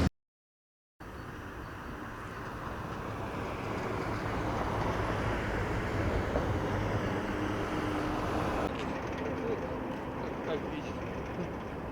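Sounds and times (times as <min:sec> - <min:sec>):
vehicle engines rumbling: 0:01.0 - 0:11.9.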